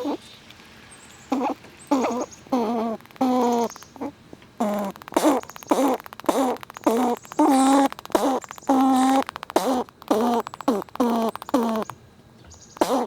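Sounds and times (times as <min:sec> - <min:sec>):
squirrels moaning calls: 0:00.0 - 0:00.3, 0:01.2 - 0:13.0
nut-chewing clicks: 0:01.3 - 0:12.0, 0:12.8 - 0:13.0.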